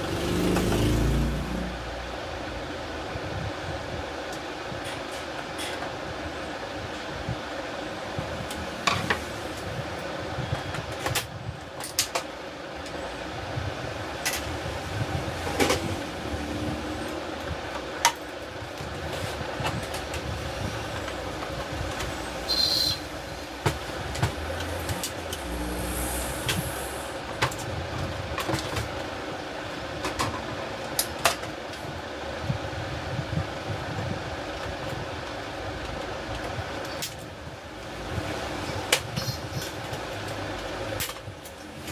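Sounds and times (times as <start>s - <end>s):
steady background rumble: 0.0s - 41.9s.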